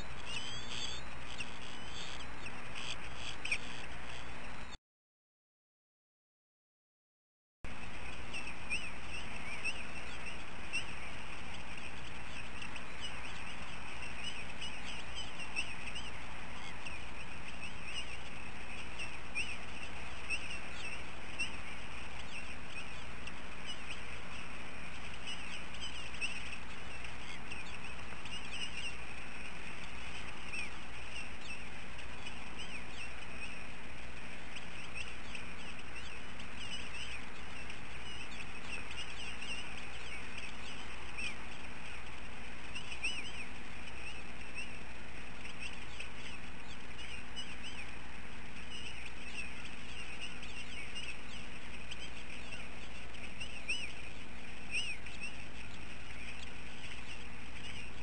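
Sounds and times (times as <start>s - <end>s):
bird chirps: 0.0s - 4.8s, 7.7s - 58.0s
steady low hum: 0.0s - 4.8s, 7.7s - 58.0s.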